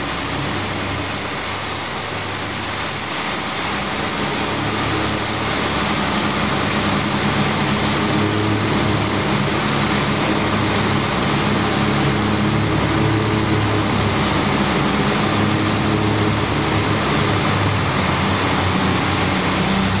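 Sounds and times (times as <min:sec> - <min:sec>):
boat diesel engines running: 0:00.0 - 0:20.0
constant rushing hiss: 0:00.0 - 0:20.0.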